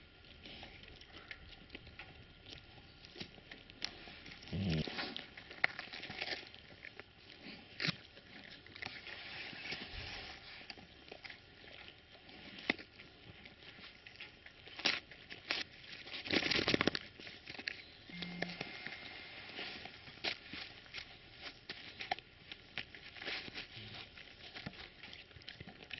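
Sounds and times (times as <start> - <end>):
dog gnawing wood: 0.0 - 25.9.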